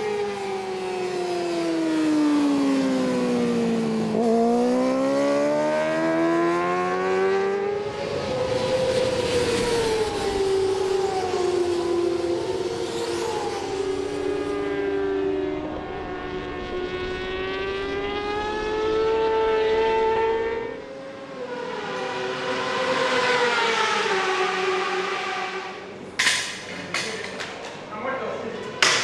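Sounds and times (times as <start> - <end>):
superbike engines at high revs: 0.0 - 26.7.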